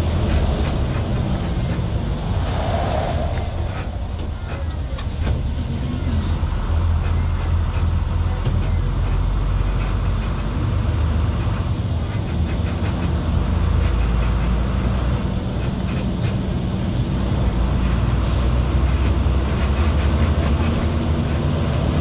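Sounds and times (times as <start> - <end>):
heavy vehicle engine and road rumble: 0.0 - 22.0.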